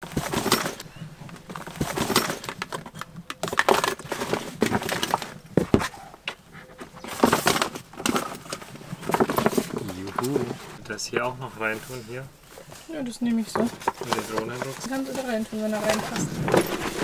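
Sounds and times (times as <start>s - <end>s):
bag rustling and scraping: 0.0s - 10.8s, 11.5s - 17.0s.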